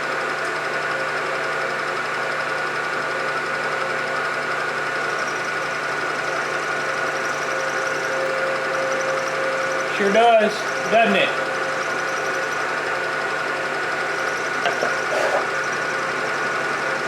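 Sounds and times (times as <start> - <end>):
milling machine humming and whining: 0.2 - 17.0.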